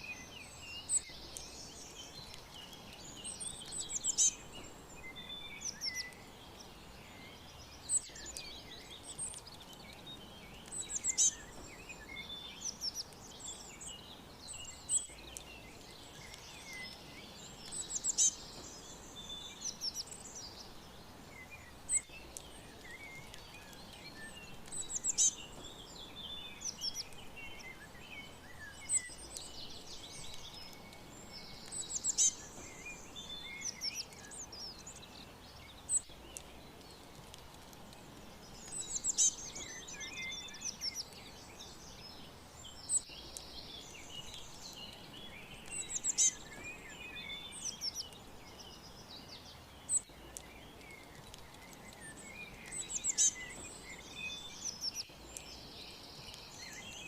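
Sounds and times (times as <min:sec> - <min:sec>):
background hiss: 0:00.0 - 0:57.0
songbirds chirping and trilling: 0:00.0 - 0:57.0.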